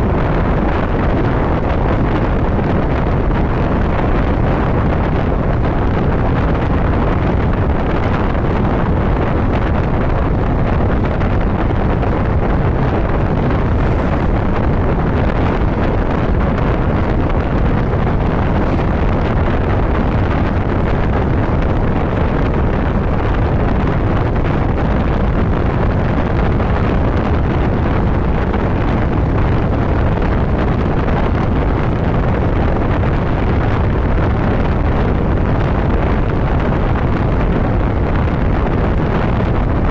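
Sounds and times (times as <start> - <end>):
motorcycle running noise: 0.0 - 39.9
wind buffeting microphone: 0.0 - 39.9.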